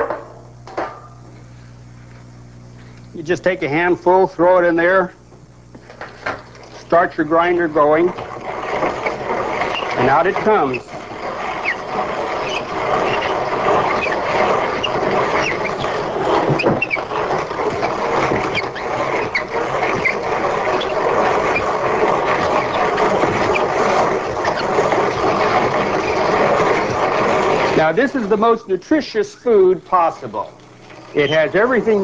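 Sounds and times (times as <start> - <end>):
grain mill grinding: 5.7 - 32.0.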